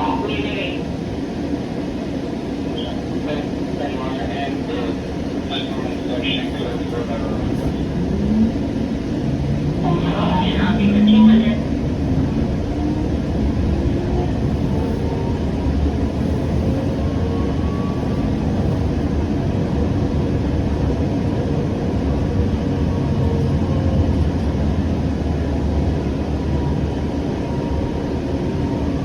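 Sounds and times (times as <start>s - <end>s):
rumble of train wheels on track: 0.0s - 29.0s.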